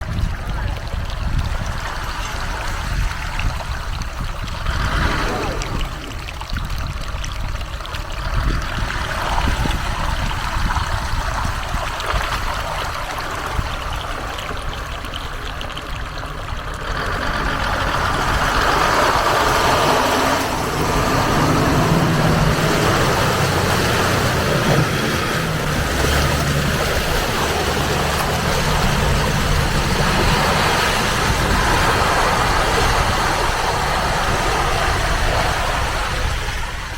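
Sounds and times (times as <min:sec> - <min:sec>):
vehicle rumbling over rough ground: 0:00.0 - 0:36.9
engine running: 0:01.5 - 0:36.9.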